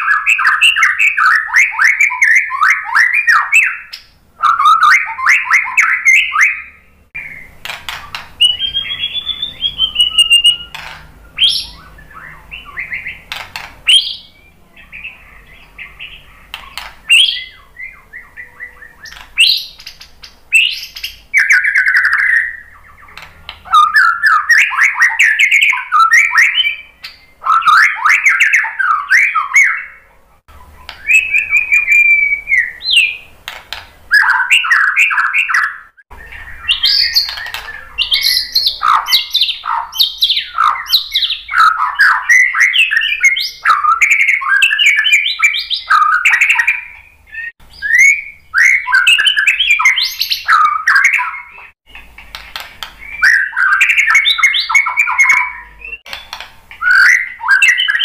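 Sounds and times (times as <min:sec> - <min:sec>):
bird singing trills and whistles: 0:00.0 - 0:33.4, 0:34.1 - 0:58.0.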